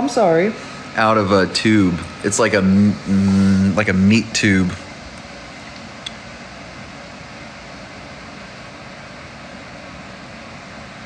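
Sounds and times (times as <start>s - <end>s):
room noise hiss and hum: 0.0s - 11.0s.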